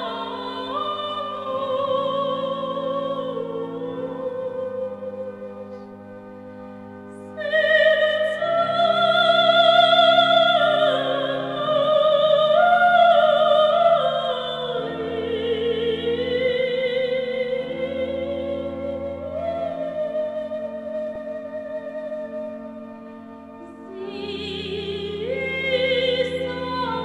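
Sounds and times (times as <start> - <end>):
woman singing with vibrato: 0.0 - 5.3, 7.4 - 22.2, 24.0 - 27.0
low accompaniment chords: 0.0 - 27.0.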